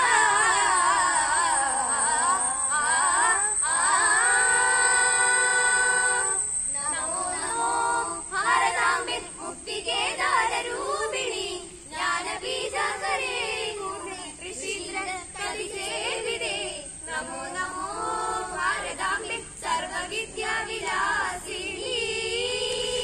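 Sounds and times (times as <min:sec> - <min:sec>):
children singing in unison: 0:00.0 - 0:23.0.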